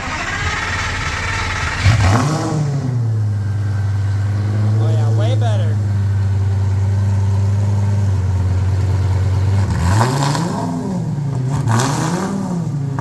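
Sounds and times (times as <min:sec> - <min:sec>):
car engine revving: 0:00.0 - 0:13.0
exhaust cracks: 0:00.0 - 0:13.0.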